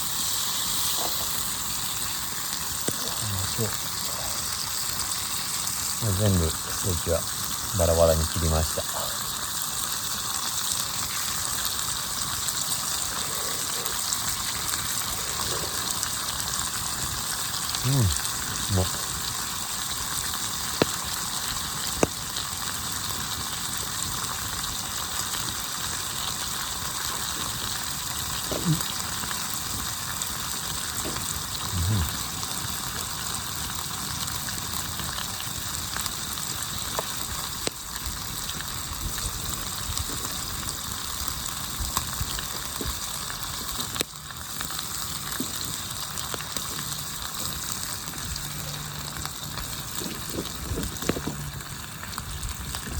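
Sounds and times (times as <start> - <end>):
sharp crackles: 0.0 - 52.9
steak sizzling in a pan: 0.0 - 52.9.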